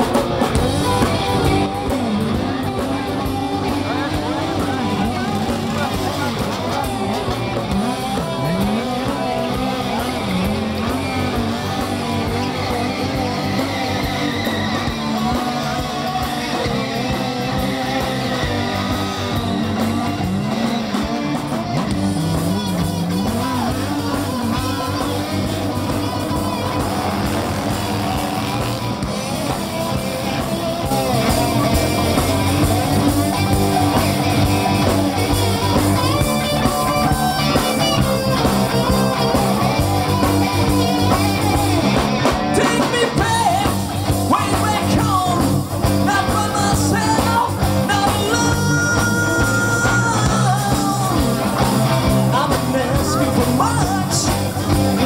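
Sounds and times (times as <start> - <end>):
rock music: 0.0 - 55.0.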